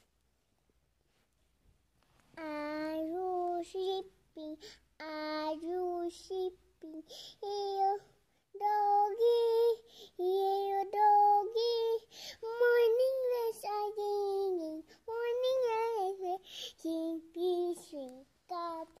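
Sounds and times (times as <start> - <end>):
child singing: 2.3 - 19.0.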